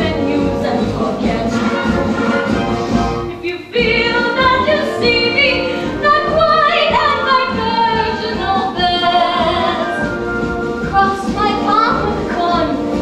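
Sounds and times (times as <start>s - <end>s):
woman singing: 0.0s - 1.8s, 3.3s - 10.2s, 10.8s - 13.0s
orchestral accompaniment: 0.0s - 13.0s.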